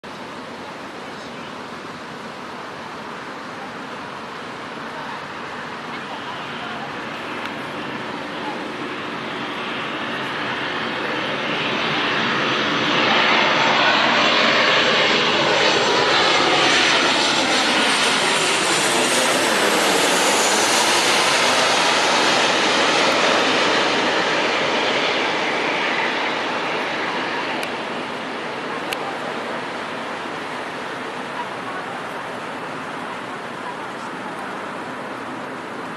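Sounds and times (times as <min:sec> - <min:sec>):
aeroplane engine roar: 0:00.1 - 0:35.9.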